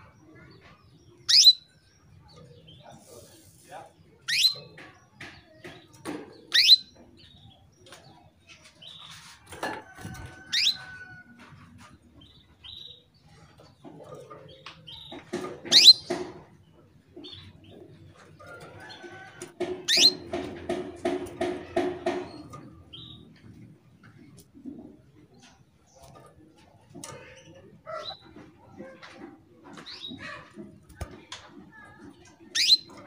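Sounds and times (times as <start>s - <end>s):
canary chirping: 0.0s - 3.3s, 4.2s - 23.8s, 26.9s - 33.0s.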